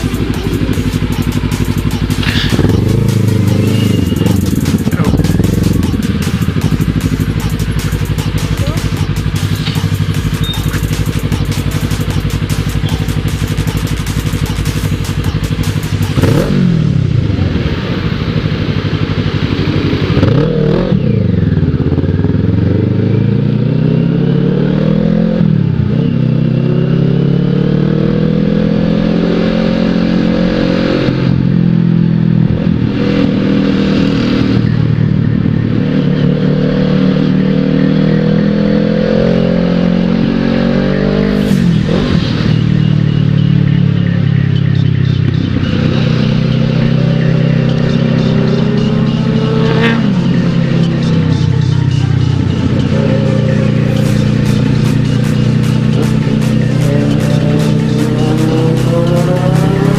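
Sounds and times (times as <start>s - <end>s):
motorcycle engine shifting gears: 0.0s - 59.9s.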